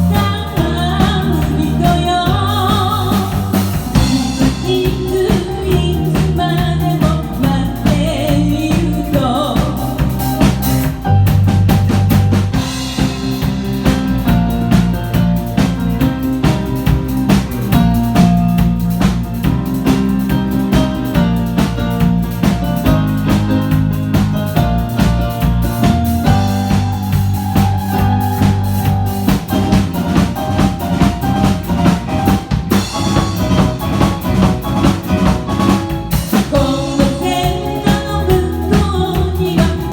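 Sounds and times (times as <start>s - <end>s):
instrumental pop band playing: 0.0s - 39.9s.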